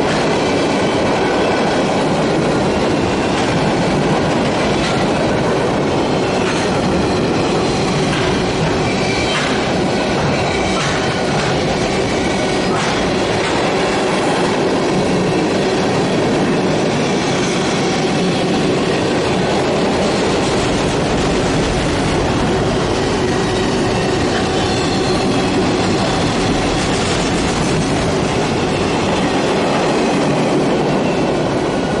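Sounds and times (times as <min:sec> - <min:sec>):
train wheels on rails: 0:00.0 - 0:32.0.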